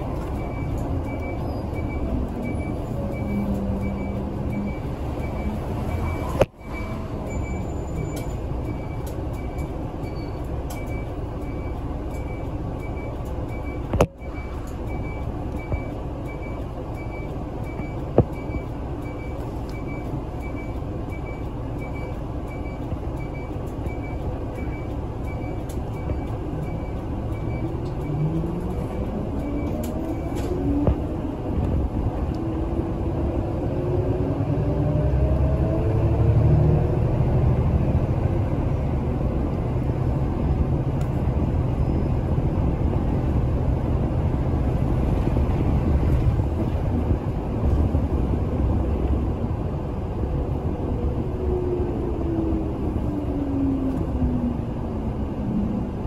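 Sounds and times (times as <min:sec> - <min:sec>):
bus engine and cabin noise: 0:00.0 - 0:56.0.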